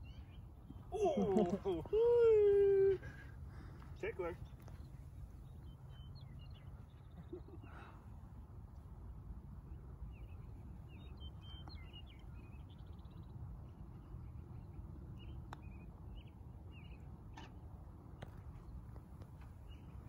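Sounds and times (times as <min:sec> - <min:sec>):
small birds chirping: 0:00.0 - 0:08.0, 0:09.6 - 0:17.5, 0:18.1 - 0:20.0.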